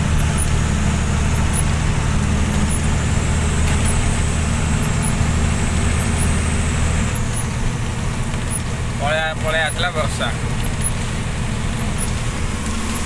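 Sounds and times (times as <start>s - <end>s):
truck engine hum: 0.0s - 13.0s
tyres on wet road: 0.0s - 13.0s.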